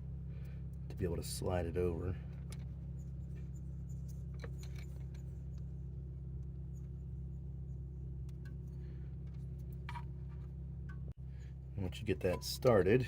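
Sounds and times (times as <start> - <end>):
low hum with steady tone: 0.0 - 13.0.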